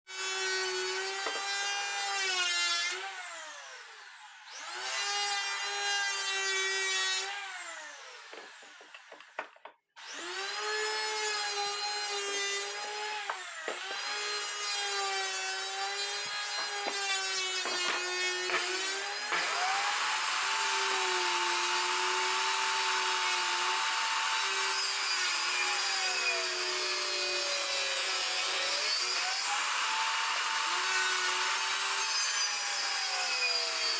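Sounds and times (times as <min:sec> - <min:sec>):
saw blade cutting wood: 0:00.1 - 0:33.9
table saw motor whining: 0:00.2 - 0:29.5.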